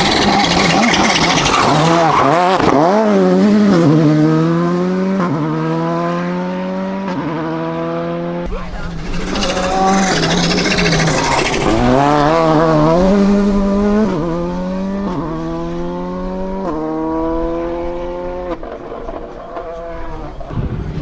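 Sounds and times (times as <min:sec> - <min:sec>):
rally car engine revving through gears: 0:00.0 - 0:20.0.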